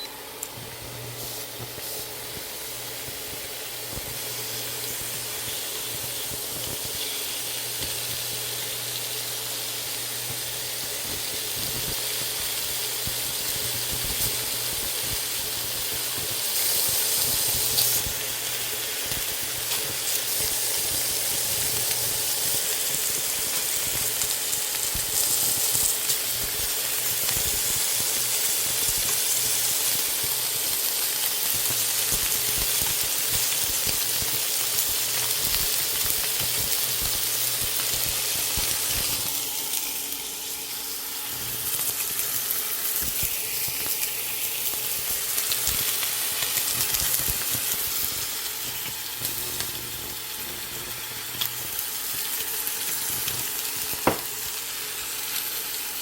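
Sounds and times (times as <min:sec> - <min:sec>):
meat sizzling in a frying pan: 0:00.7 - 0:56.0.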